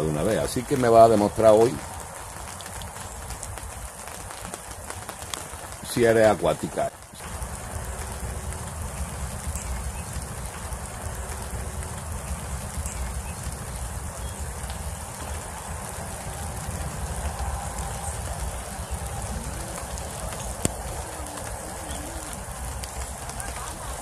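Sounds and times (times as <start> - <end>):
steady rain hissing: 0.0 - 24.0.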